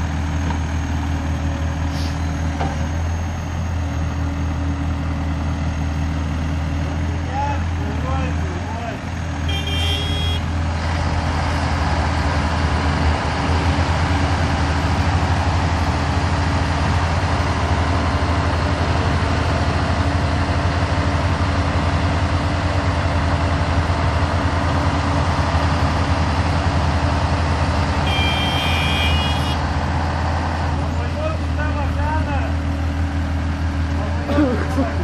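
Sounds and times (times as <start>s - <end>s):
diesel engines droning: 0.0s - 35.0s.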